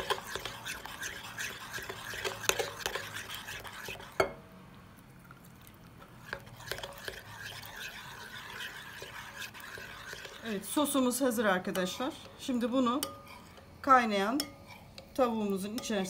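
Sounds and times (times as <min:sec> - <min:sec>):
spoon stirring in bowl: 0:00.0 - 0:04.4, 0:05.3 - 0:16.0.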